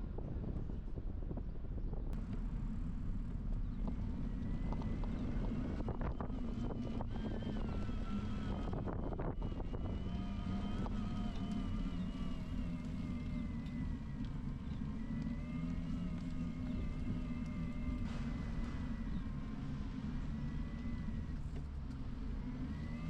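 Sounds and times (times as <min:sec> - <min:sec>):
wind buffeting microphone: 0:00.0 - 0:21.6
low riding rumble: 0:00.0 - 0:23.0.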